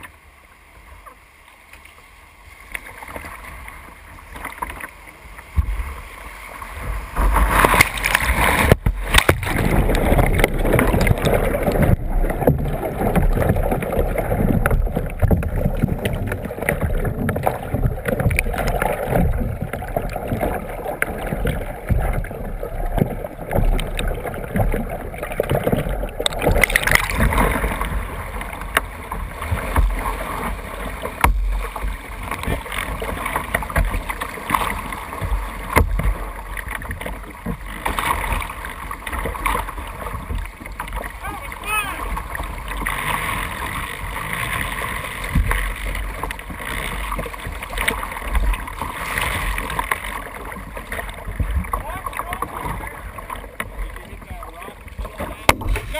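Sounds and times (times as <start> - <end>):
muffled underwater rushing: 0.0 - 55.9
water rushing and splashing: 0.0 - 55.9.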